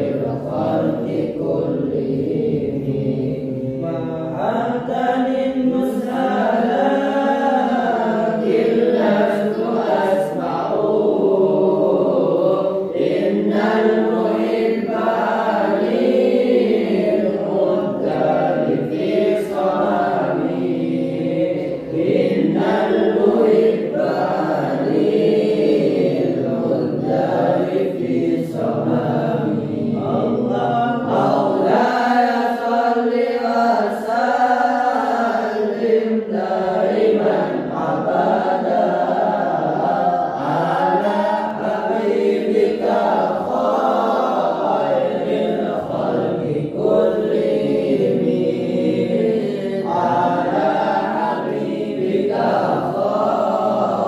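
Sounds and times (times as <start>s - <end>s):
group chanting: 0.0s - 54.0s.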